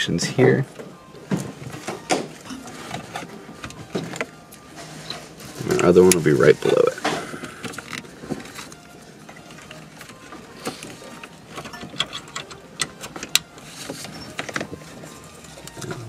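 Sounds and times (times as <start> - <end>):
wiring loom rustling: 1.4 - 16.0.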